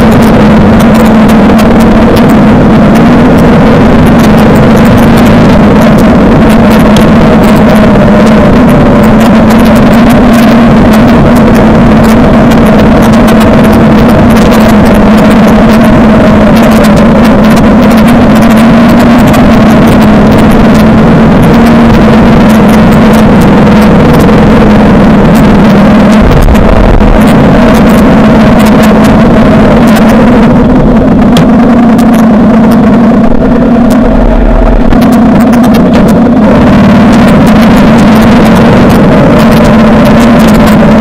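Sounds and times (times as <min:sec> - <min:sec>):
deep rumble: 0:00.0 - 0:41.0
motorcycle engine running: 0:00.0 - 0:41.0.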